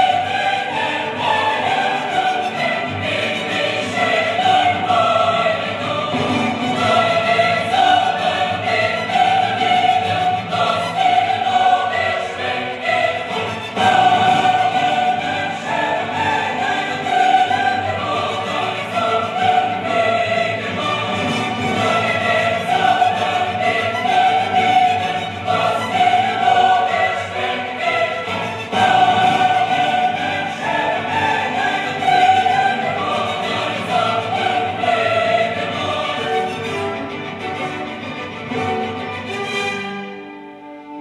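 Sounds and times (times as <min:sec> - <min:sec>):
choral orchestral music: 0:00.0 - 0:41.0.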